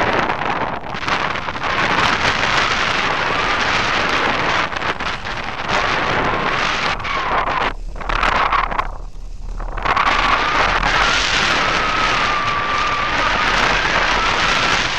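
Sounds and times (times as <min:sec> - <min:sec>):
wind buffeting camera: 0:00.0 - 0:14.9.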